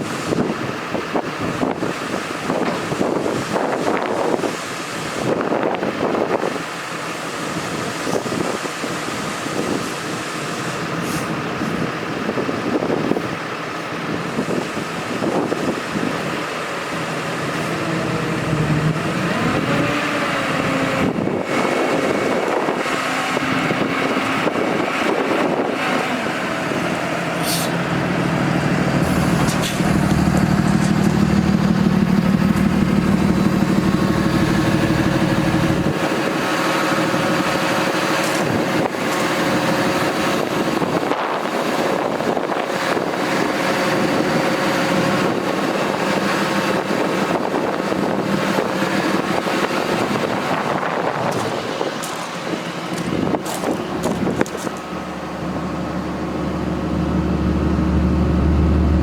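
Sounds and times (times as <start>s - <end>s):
diesel truck engine running: 10.8s - 59.0s.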